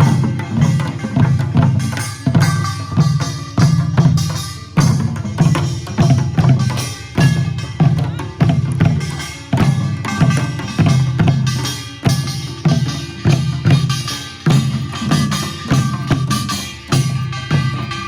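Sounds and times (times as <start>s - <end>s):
percussion ensemble drumming: 0.0s - 18.0s.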